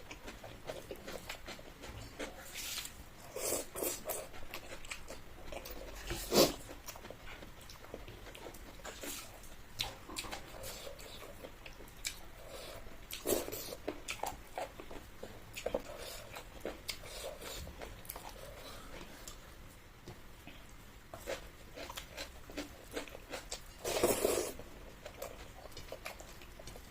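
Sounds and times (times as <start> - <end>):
person chewing: 0.0 - 19.5, 20.4 - 26.9.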